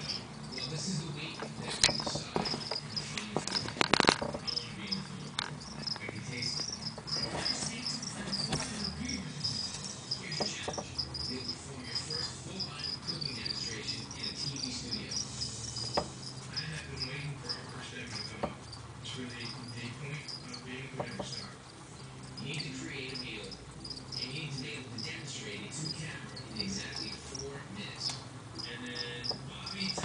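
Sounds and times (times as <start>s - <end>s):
cricket chirping: 1.7s - 30.0s.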